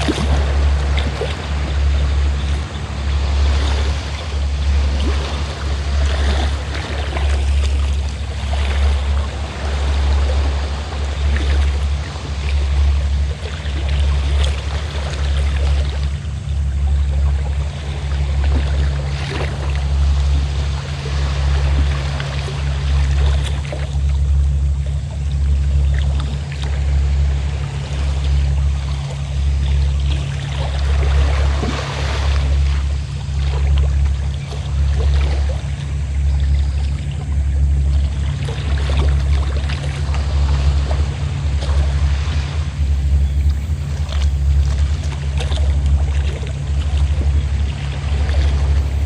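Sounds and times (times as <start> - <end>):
boat engine throbbing hum: 0.0 - 49.0
waves lapping: 0.0 - 49.0.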